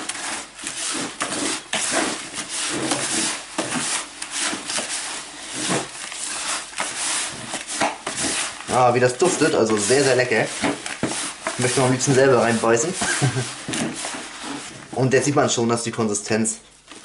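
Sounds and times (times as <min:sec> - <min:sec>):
hand mixing groundbait in bucket: 0:00.0 - 0:17.0.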